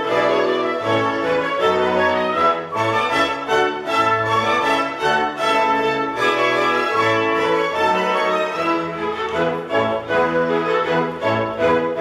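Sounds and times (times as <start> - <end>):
orchestral music with bowed strings: 0.0 - 12.0.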